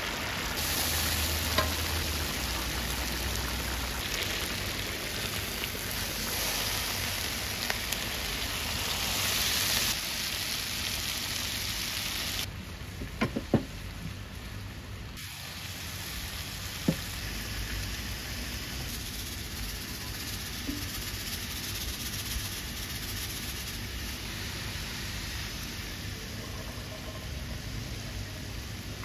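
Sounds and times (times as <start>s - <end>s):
carrots sizzling in oil: 0.0s - 12.5s, 15.2s - 29.0s.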